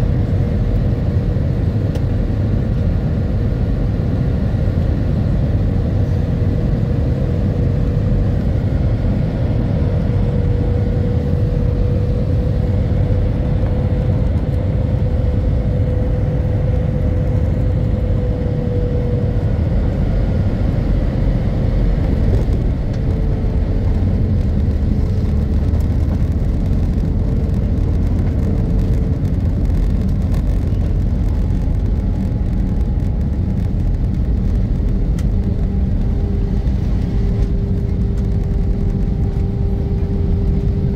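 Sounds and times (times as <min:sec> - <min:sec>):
engine and wheel rumble: 0:00.0 - 0:40.9.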